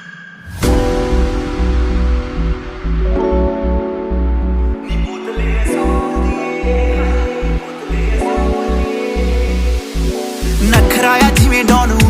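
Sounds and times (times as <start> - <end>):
pop music with heavy bass beat: 0.6 - 12.0.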